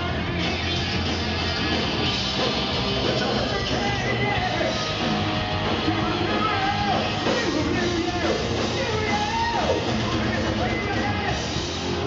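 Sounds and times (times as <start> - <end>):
hard rock band playing live: 0.0 - 12.0.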